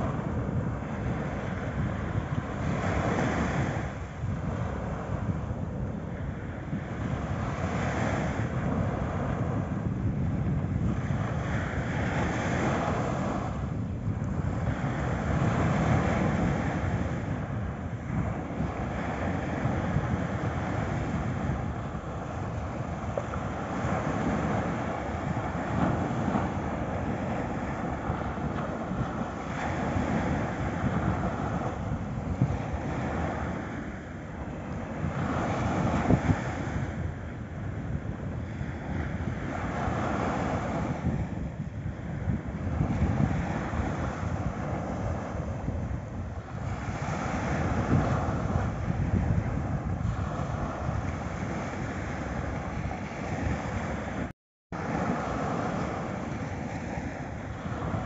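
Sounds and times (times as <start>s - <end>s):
waves breaking on beach: 0.0s - 58.0s
wind rumbling on microphone: 0.0s - 58.0s.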